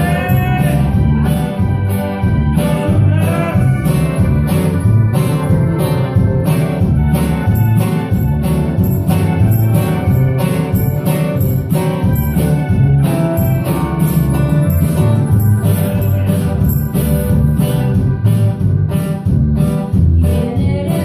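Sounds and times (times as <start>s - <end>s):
acoustic guitar: 0.0s - 21.0s
electric bass: 0.0s - 21.0s
live band playing: 0.0s - 21.0s.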